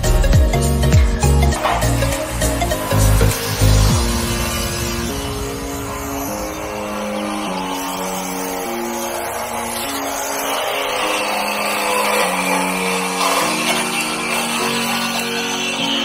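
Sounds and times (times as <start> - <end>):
background music with simple melody: 0.0 - 16.0
noisy rushing sound: 1.5 - 14.8.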